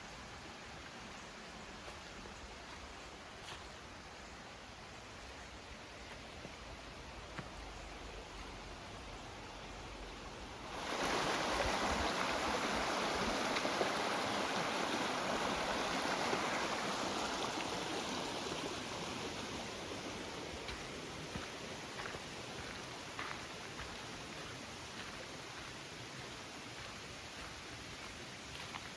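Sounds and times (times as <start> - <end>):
rushing stream water: 0.0 - 28.9.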